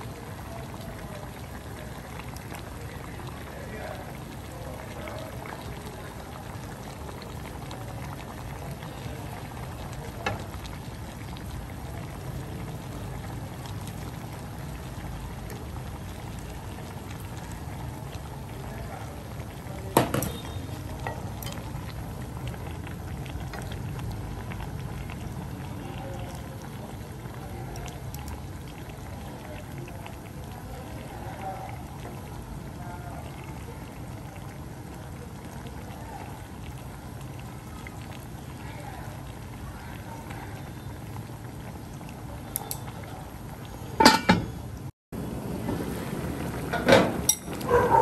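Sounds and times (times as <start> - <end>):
food bubbling on stove: 0.0 - 48.0.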